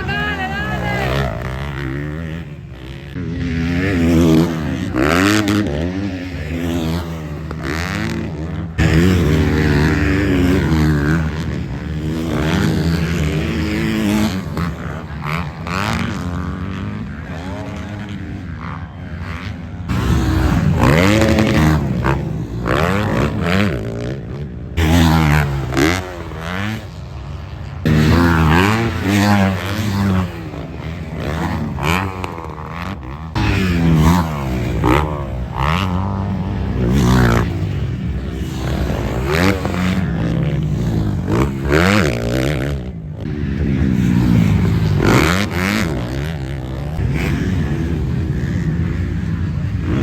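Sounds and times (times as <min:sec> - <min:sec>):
motocross bike engines revving: 0:00.0 - 0:50.0.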